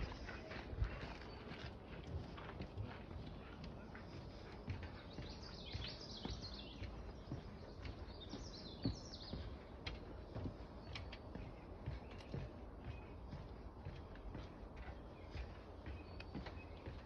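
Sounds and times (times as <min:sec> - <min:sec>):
outdoor background noise: 0:00.0 - 0:17.0
songbird chirping: 0:00.0 - 0:17.0.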